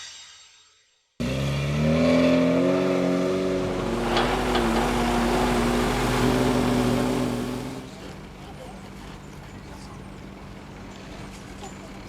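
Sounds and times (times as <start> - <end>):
engine running: 1.2 - 12.0.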